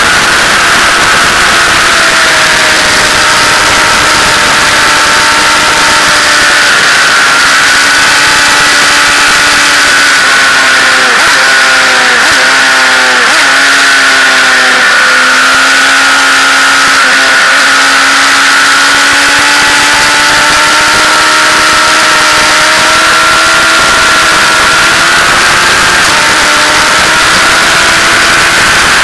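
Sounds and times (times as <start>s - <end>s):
motorcycle engine at speed: 0.0s - 29.0s.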